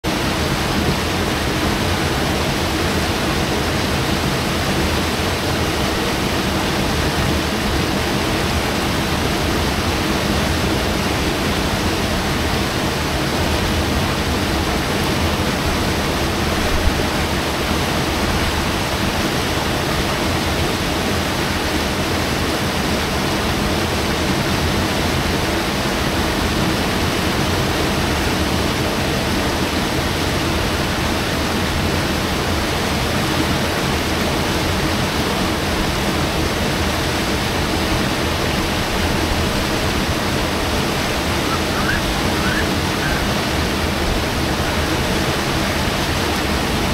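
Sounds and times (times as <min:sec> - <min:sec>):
river rapids rushing: 0:00.1 - 0:46.9.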